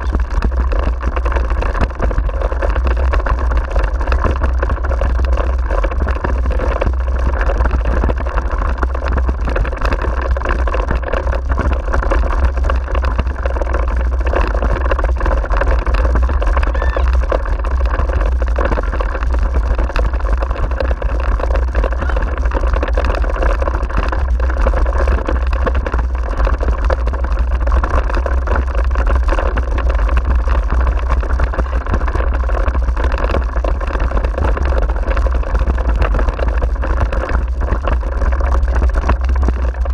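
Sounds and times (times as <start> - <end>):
rig rattling over rough track: 0.0 - 39.9
wind buffeting microphone: 0.0 - 39.9.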